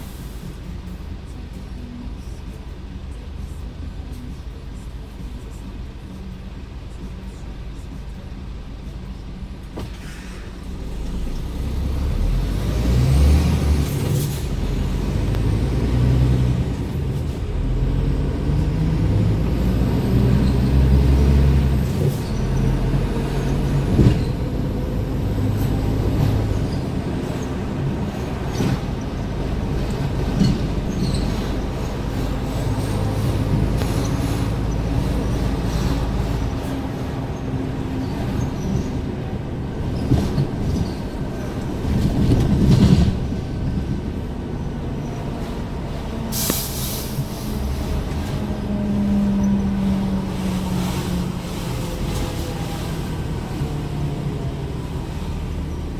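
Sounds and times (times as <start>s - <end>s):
truck engine running: 0.0s - 55.9s
tyre and road noise: 0.0s - 55.9s.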